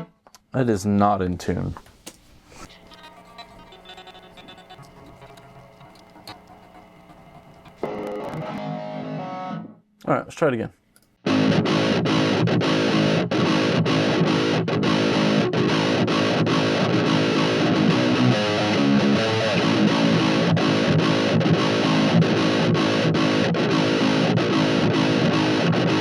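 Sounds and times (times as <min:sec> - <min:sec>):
distorted electric guitar chugging riff: 0:03.6 - 0:09.8, 0:11.2 - 0:26.0.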